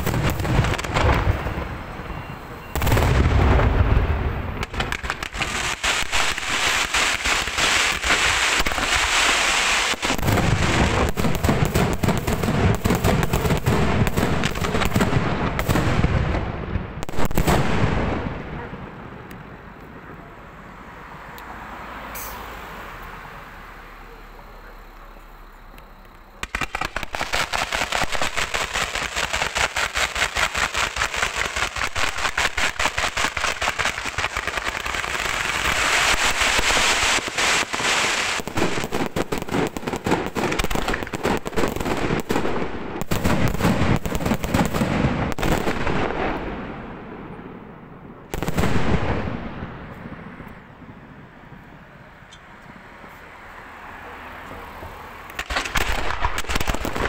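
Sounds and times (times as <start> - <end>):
fireworks barrage: 0.0 - 20.2, 26.3 - 52.3, 54.4 - 57.0.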